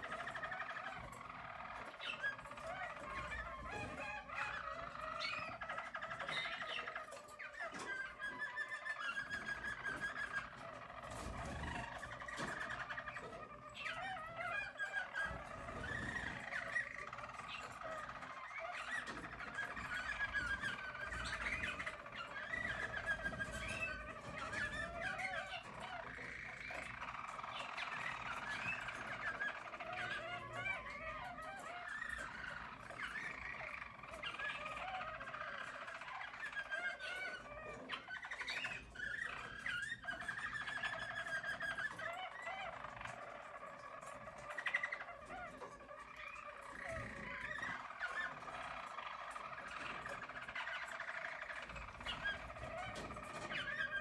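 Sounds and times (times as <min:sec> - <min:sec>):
canary trilling song: 0:00.0 - 0:54.0.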